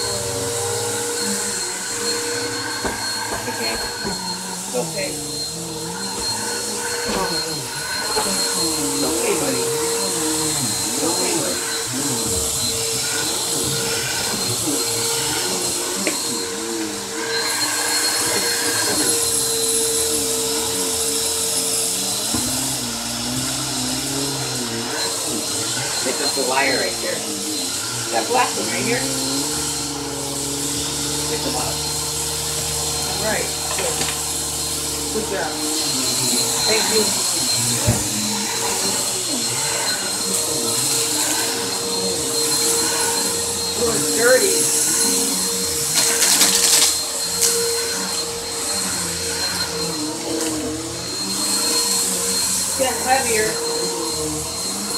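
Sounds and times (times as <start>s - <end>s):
vacuum cleaner motor whine: 0.0s - 54.9s.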